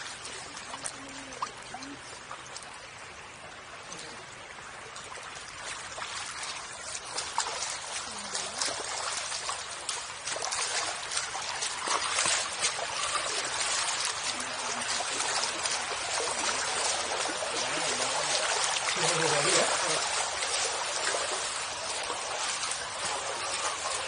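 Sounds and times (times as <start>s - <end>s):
footsteps splashing in water: 0.0s - 2.8s, 4.9s - 24.0s
floodwater rippling and lapping: 0.0s - 24.0s.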